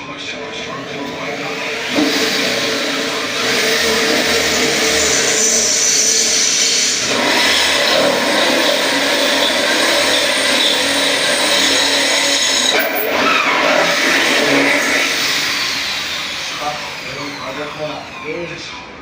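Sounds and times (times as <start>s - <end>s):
power tool on metal: 0.4s - 18.6s.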